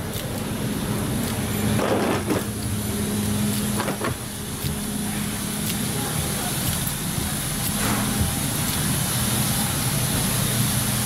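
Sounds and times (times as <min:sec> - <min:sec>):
machinery hum and rumble: 0:00.0 - 0:11.0.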